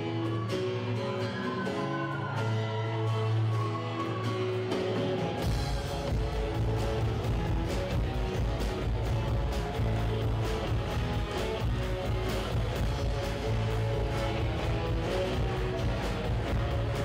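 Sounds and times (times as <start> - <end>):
live rock band playing: 3.1 - 17.0.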